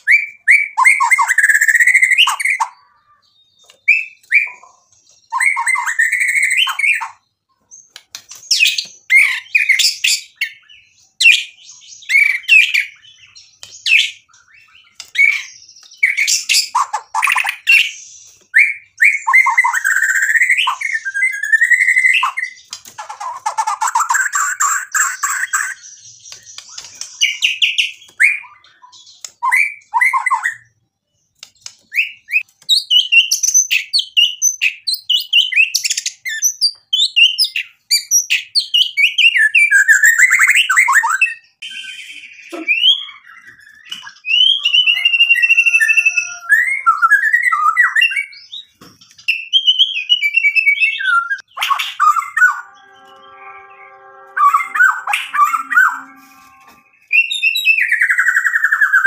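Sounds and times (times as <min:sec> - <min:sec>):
songbird singing whistled phrases: 0:00.0 - 0:02.9, 0:03.5 - 0:30.8, 0:31.9 - 0:59.0.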